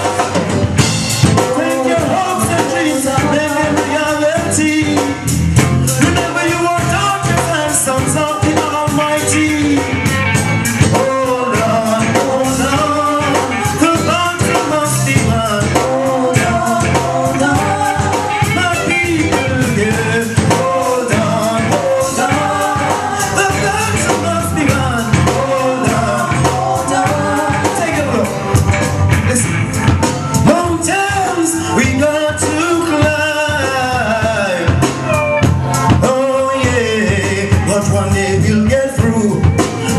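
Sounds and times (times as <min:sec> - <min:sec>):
live reggae band playing: 0:00.0 - 0:39.9
wavering melodic lead line: 0:00.0 - 0:39.9.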